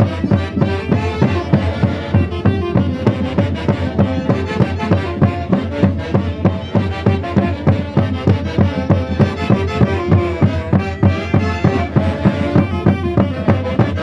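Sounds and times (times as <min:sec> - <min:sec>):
festival band music with quick beat: 0:00.0 - 0:14.0.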